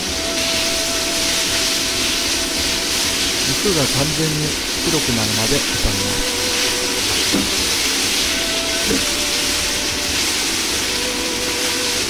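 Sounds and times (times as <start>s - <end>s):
pork sizzling in a wok: 0.0s - 12.0s.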